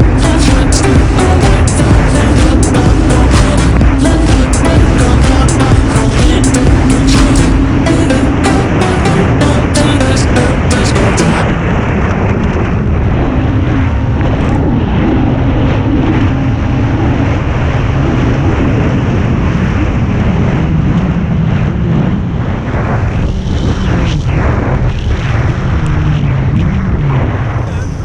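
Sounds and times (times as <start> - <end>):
jet ski engine: 0.0 - 28.0
water rushing: 0.0 - 28.0
wind on microphone: 0.0 - 28.0.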